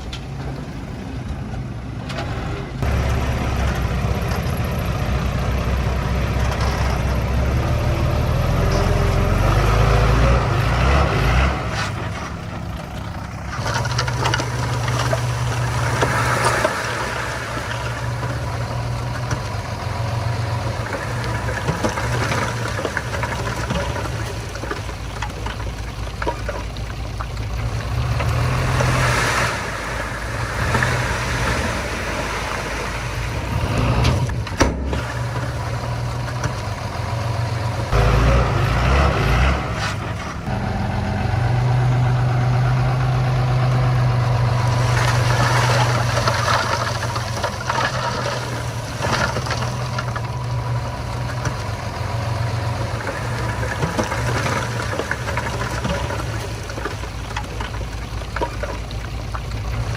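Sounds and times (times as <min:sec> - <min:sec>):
diesel engines working: 0:00.0 - 0:59.9.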